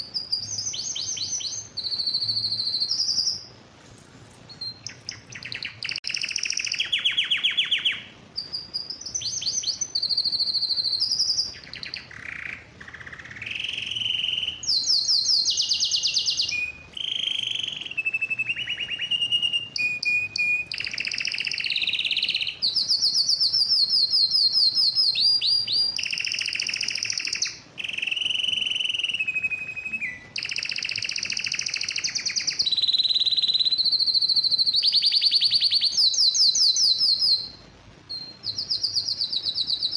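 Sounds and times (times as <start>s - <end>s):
canary singing trills: 0.0s - 3.7s, 4.4s - 39.9s.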